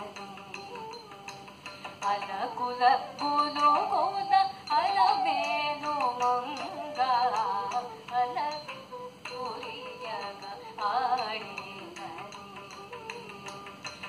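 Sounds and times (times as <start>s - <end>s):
person singing ornamented melody: 0.0s - 14.0s.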